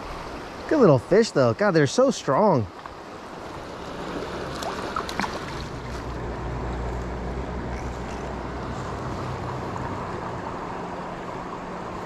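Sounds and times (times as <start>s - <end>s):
river water flowing over rocks: 0.0s - 12.0s.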